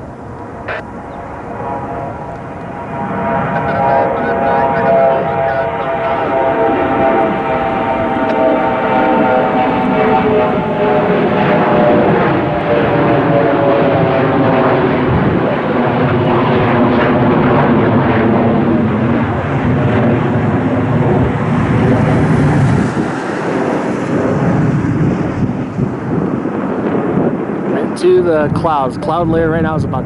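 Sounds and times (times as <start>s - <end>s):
jet engine roar: 0.0s - 30.0s
jet engine whine: 0.0s - 30.0s.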